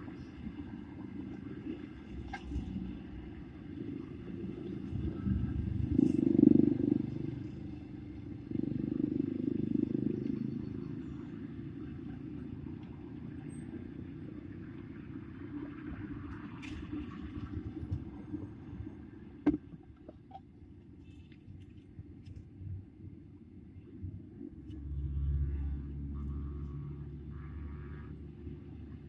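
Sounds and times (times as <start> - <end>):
vehicles passing with low rumble: 0.0 - 29.0.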